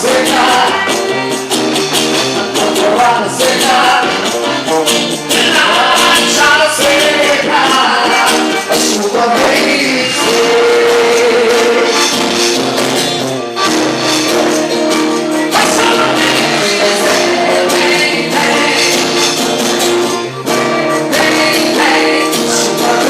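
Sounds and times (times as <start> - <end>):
person singing: 0.0 - 12.2, 14.3 - 23.0
shaken percussion: 0.0 - 23.0.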